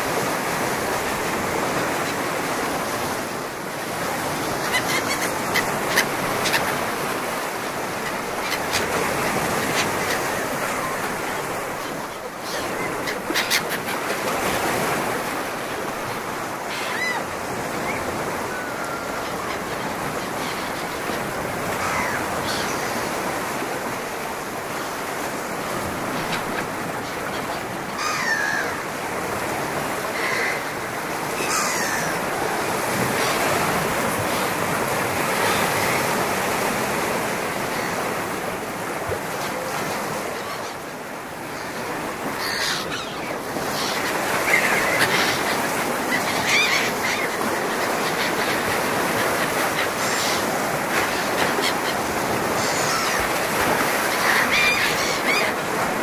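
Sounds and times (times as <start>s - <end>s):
surf washing over rocks: 0.0s - 56.0s.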